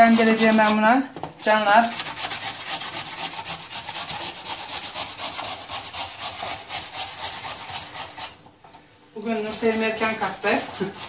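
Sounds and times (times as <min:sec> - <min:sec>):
potato grating on grater: 0:00.0 - 0:00.8, 0:01.4 - 0:08.4, 0:09.2 - 0:11.0.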